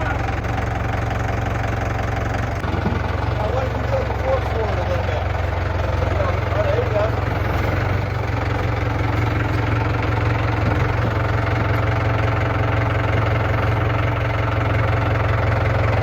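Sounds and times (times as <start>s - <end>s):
loader engine idling: 0.0s - 16.0s.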